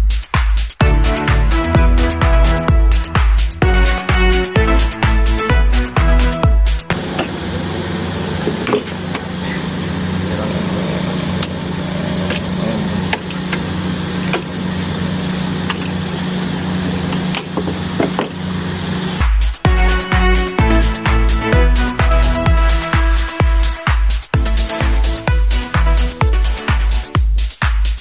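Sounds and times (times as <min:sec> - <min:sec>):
motor humming: 0:00.8 - 0:23.8, 0:24.4 - 0:27.1.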